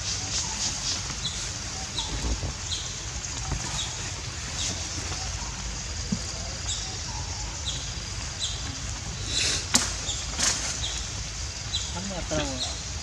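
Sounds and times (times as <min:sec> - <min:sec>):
low background rumble: 0:00.0 - 0:13.0
rustle: 0:00.0 - 0:13.0.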